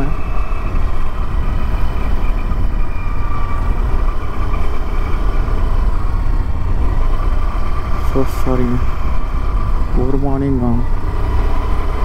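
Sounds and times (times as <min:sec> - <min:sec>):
faint steady whine: 0:00.0 - 0:12.0
motorcycle engine running: 0:00.0 - 0:12.0.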